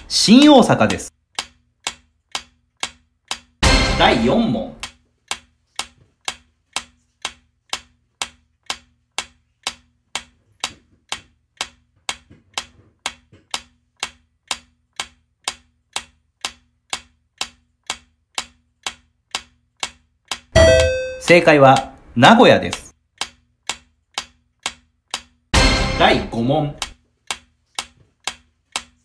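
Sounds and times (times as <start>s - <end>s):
clock-like ticking: 0.0s - 29.0s.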